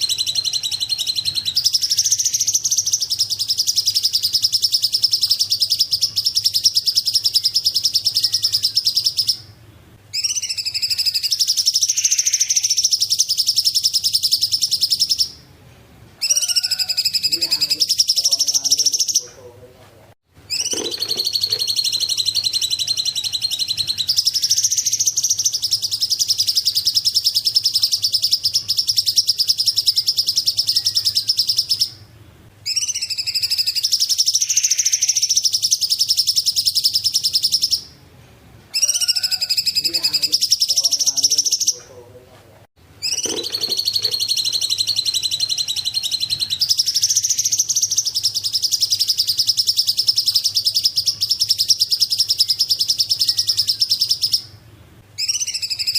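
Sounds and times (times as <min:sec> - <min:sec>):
songbird trilling: 0:00.0 - 0:15.4, 0:16.2 - 0:19.4, 0:20.5 - 0:38.0, 0:38.7 - 0:41.9, 0:43.0 - 0:54.6, 0:55.2 - 0:55.9.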